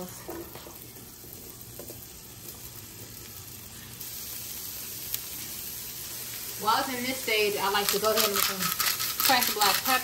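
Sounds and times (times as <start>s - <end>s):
potatoes sizzling in oil: 0.0s - 10.0s.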